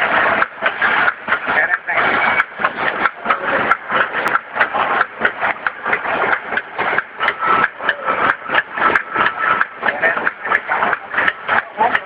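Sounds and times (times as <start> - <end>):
packing machine cycling: 0.0 - 12.0.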